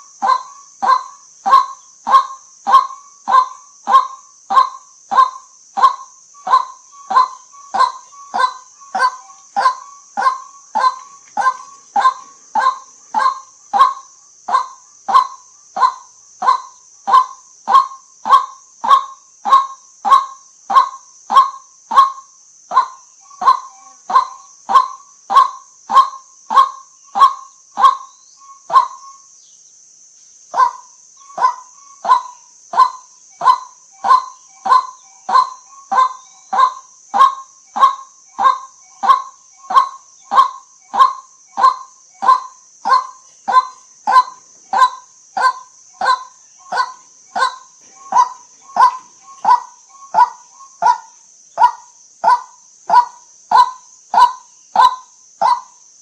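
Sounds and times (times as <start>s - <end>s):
faint steady hiss: 0.0s - 56.0s
waterhen honking calls: 0.2s - 28.1s, 30.6s - 55.6s.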